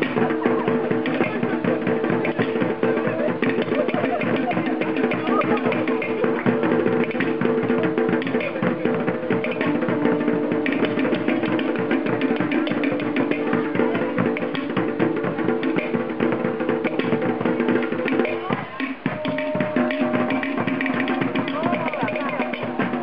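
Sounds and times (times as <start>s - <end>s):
fast drum music: 0.0s - 23.0s.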